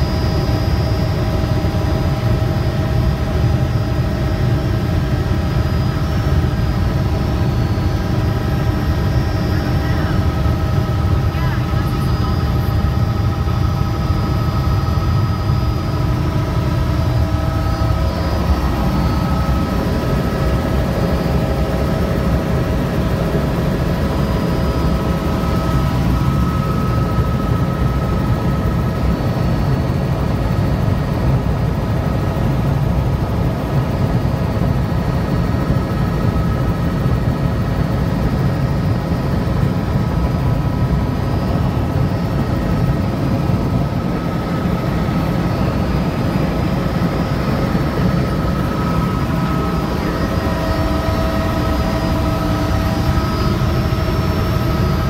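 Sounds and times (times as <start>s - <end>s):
helicopter engine and rotor: 0.0s - 55.0s
steady whining tones: 0.0s - 55.0s.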